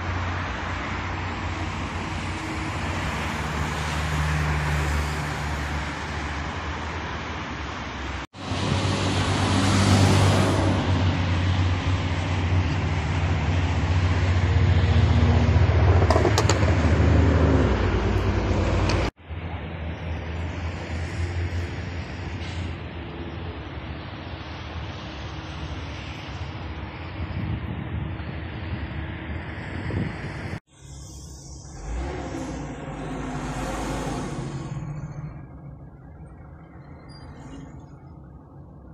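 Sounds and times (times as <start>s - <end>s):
expressway traffic rush: 0.0s - 38.9s.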